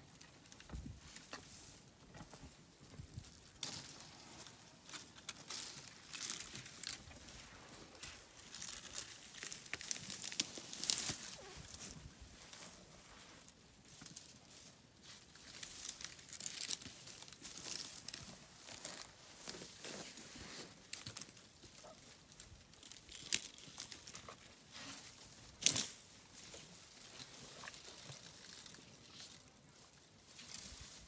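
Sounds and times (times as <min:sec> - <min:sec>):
rustling and crackling: 0:00.0 - 0:31.0.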